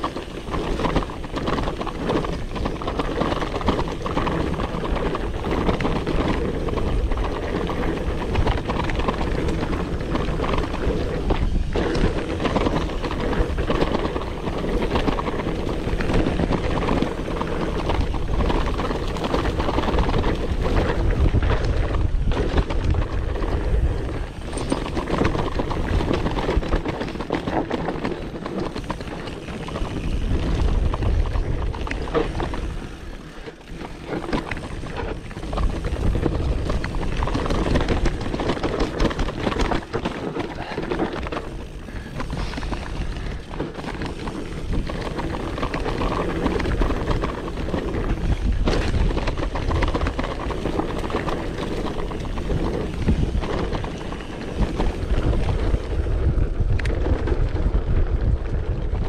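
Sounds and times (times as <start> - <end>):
bike rattling over bumps: 0.0 - 59.0
bike tyre noise: 0.0 - 59.0
wind on microphone: 0.0 - 59.0.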